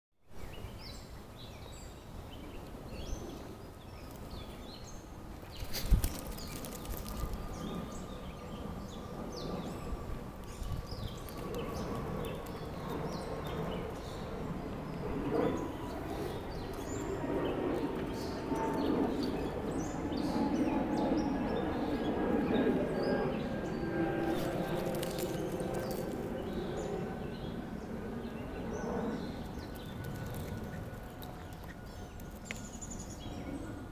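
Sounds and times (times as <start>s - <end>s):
faint outdoor background noise: 0.2s - 33.9s
birds chirping: 0.4s - 33.9s.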